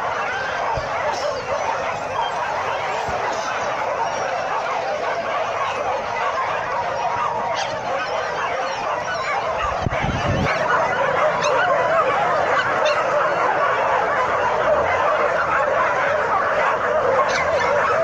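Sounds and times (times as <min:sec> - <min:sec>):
dogs yelping and whining: 0:00.0 - 0:18.0.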